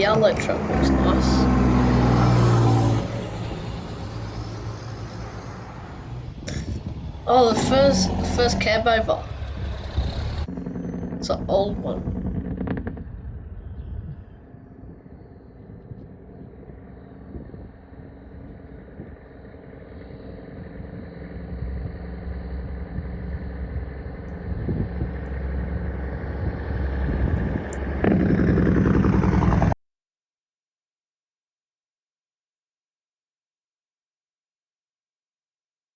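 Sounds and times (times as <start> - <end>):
truck diesel engine running: 0.0 - 29.8.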